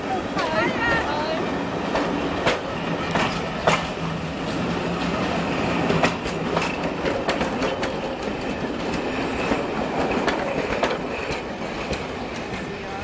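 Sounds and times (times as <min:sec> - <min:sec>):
train coaches rumbling past: 0:00.0 - 0:13.0
wheels clicking over rail joints: 0:00.3 - 0:13.0.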